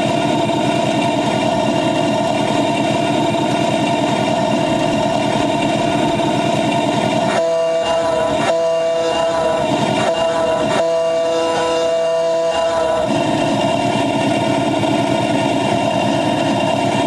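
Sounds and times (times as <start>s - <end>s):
small train engine whining: 0.0s - 17.0s
steady tone: 0.0s - 17.0s.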